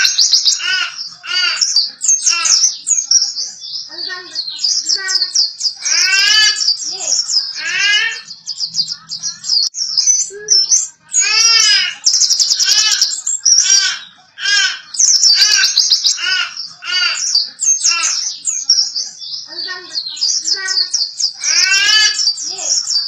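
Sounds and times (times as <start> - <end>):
songbird twittering: 0.0 - 23.0.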